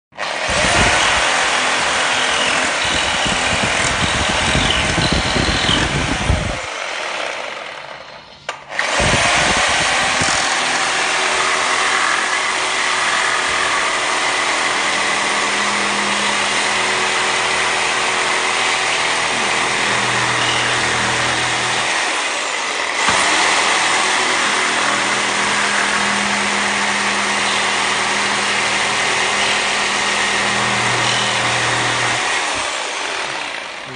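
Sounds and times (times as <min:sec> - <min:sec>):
reciprocating saw cutting wood: 0:00.1 - 0:33.9.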